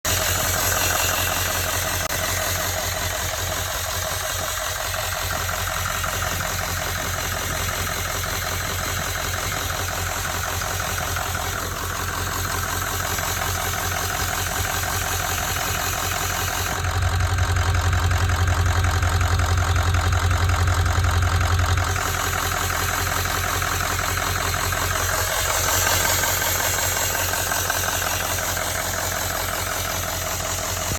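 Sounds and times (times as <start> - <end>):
engine idling: 0.0 - 30.9
turbocharger hissing: 0.0 - 30.9.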